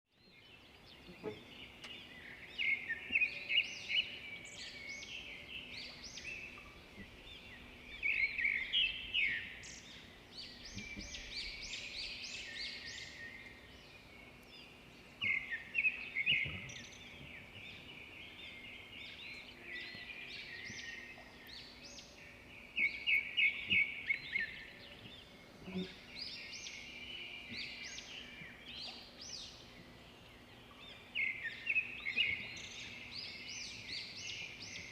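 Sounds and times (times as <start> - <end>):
small birds chirping and trilling: 0.1 - 34.9.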